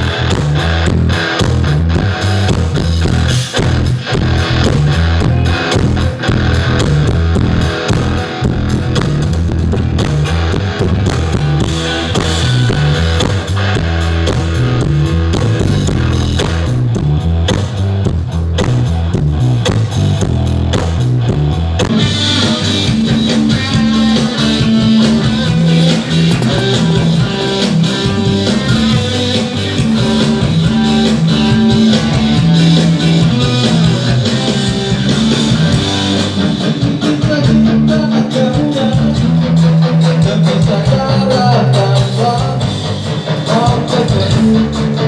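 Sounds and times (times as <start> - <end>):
bass guitar: 0.0 - 45.0
drum kit: 0.0 - 45.0
electric guitars: 0.0 - 45.0.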